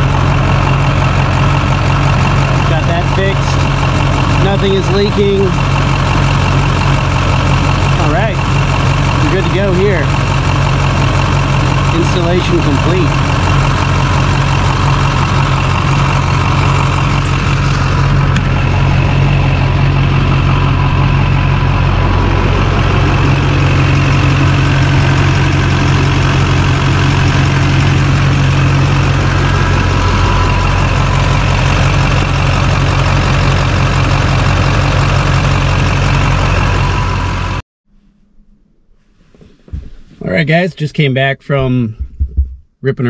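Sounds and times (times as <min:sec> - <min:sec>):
diesel engine idling: 0:00.0 - 0:37.6.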